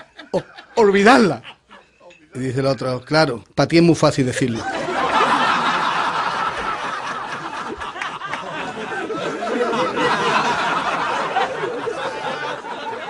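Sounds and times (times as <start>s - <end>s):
audience laughing: 0.0s - 3.0s, 4.2s - 13.0s.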